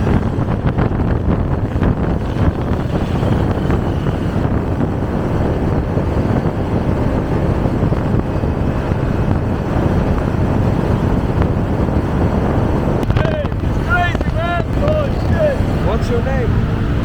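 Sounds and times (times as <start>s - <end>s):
motorbike engine running: 0.0s - 17.0s
wind buffeting microphone: 0.0s - 17.0s.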